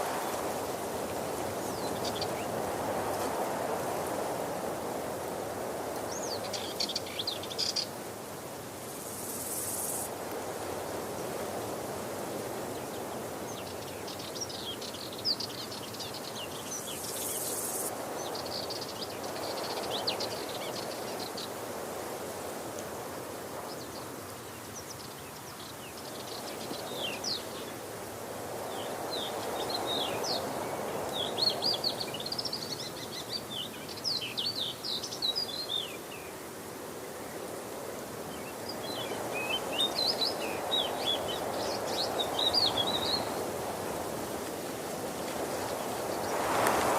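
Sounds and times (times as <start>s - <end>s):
small birds chirping: 0.0s - 4.1s, 6.0s - 8.0s, 12.7s - 21.6s, 23.6s - 37.6s, 38.2s - 46.9s.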